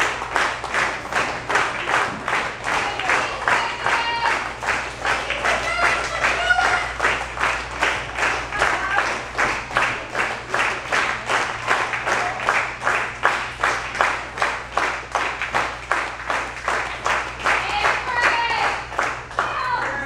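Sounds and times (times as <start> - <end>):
group clapping in rhythm: 0.0 - 20.0.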